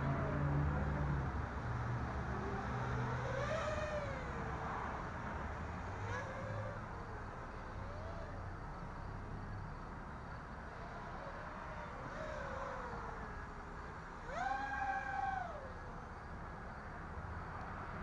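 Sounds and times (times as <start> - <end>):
quadcopter motors whining: 0.0 - 16.5.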